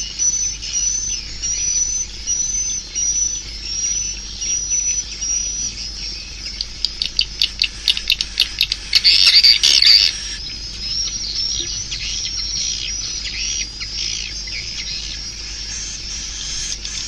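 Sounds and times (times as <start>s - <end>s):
swiftlet calls: 0.4s - 17.0s.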